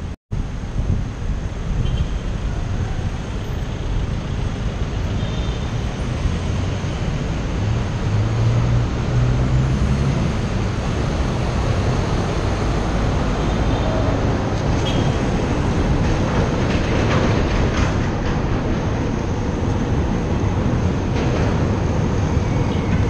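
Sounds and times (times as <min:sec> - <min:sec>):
traffic road noise and engines: 0:00.0 - 0:23.0
wind rushing over microphone: 0:00.0 - 0:23.0.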